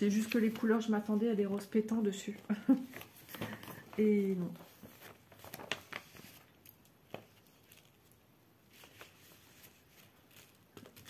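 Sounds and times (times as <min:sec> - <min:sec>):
soft paper rustle: 0:00.0 - 0:11.0.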